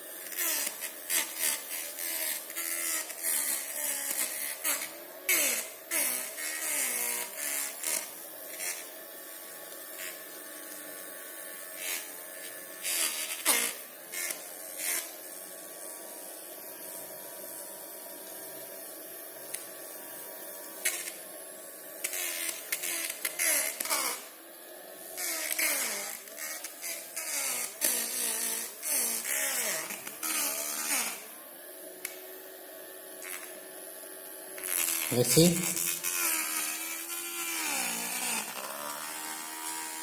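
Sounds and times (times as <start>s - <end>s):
small vacuum motor humming: 0.0s - 40.0s.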